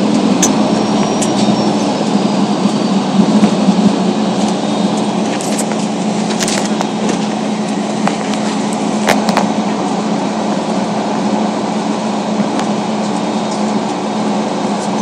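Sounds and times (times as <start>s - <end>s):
bus engine and tyres droning: 0.0s - 15.0s.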